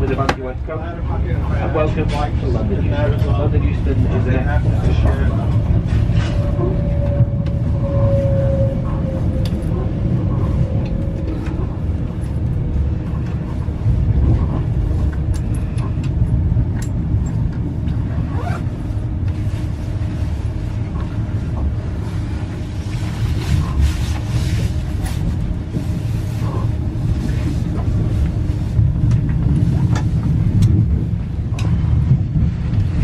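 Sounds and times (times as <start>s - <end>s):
faint whine: 0.0s - 29.2s
train wheels rumbling on track: 0.0s - 33.0s.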